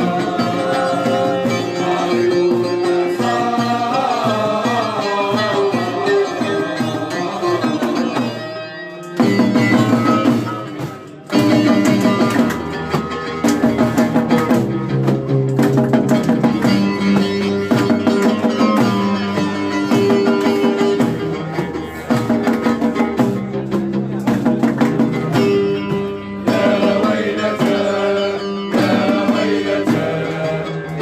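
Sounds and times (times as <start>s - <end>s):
hand drum beat: 0.0s - 31.0s
string instruments melody: 0.0s - 31.0s.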